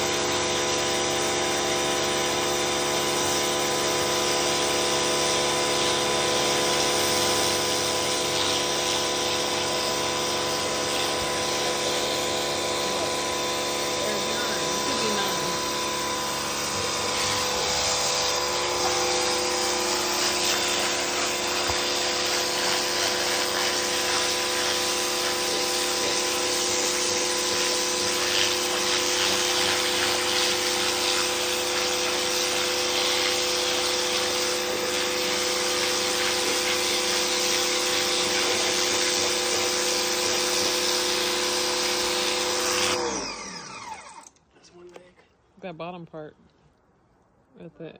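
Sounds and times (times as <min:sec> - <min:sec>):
water jet hissing: 0:00.0 - 0:44.1
pressure washer motor hum: 0:00.0 - 0:44.5.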